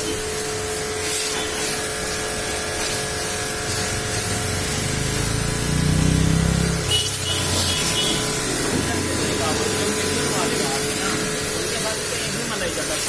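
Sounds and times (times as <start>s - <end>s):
pressure-washer pump whine: 0.0s - 13.0s
water jet spraying hiss: 0.0s - 13.0s.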